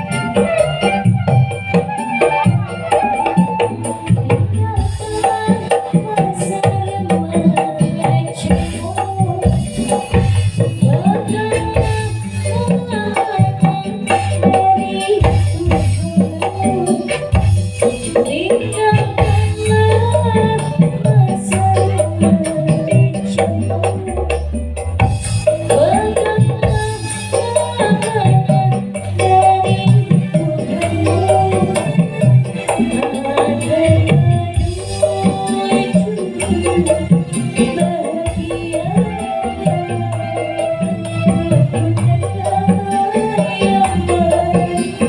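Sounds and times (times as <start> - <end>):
hand-drum strikes: 0.0 - 45.0
held melodic line: 0.0 - 45.0
live music through sound system: 0.0 - 45.0.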